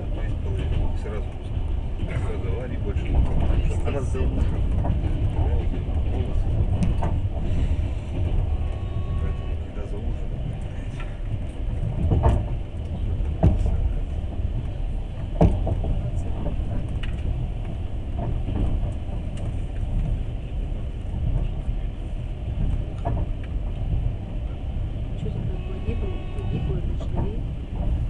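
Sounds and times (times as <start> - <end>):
sharp knocks of train: 0.0 - 28.0
train rumbling inside carriage: 0.0 - 28.0.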